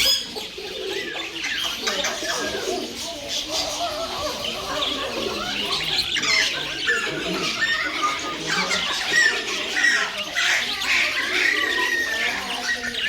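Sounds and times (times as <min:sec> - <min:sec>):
bird squawking and chattering: 0:00.0 - 0:13.0.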